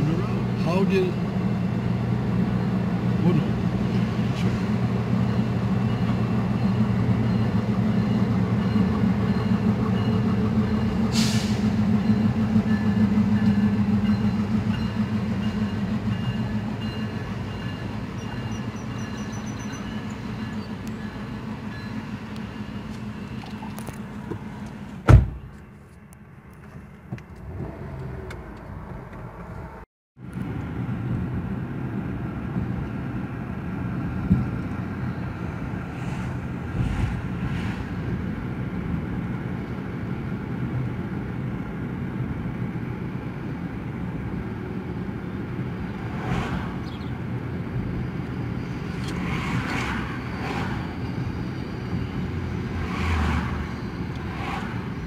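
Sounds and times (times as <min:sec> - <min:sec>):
car road noise: 0:00.0 - 0:55.0
diesel locomotive drone: 0:00.0 - 0:55.0.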